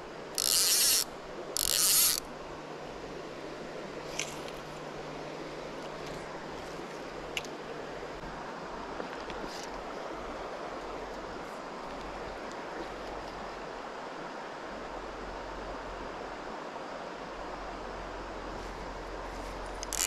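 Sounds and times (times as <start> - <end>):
river water flowing over stones: 0.0 - 20.0.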